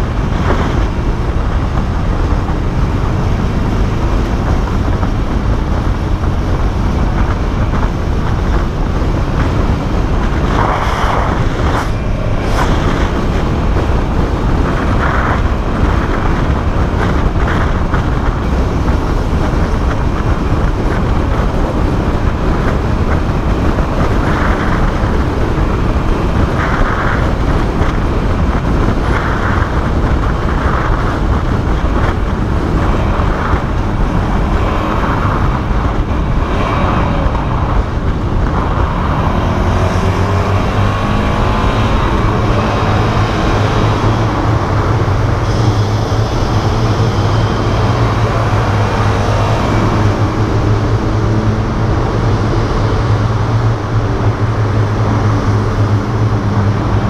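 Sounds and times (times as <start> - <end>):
motorcycle engines: 0.0 - 57.0
wind rumble: 0.0 - 57.0.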